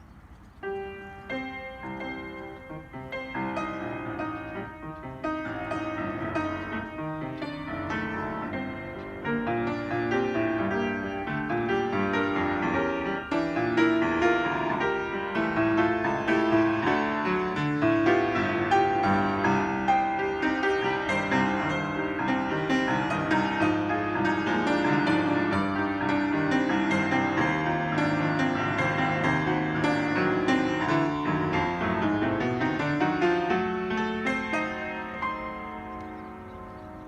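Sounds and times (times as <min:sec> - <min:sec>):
piano playing: 0:00.0 - 0:37.0.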